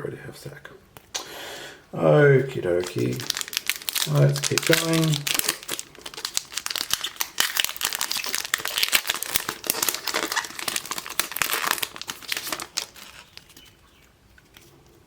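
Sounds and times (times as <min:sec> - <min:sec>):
plastic wrapper crinkling: 0:02.3 - 0:14.8.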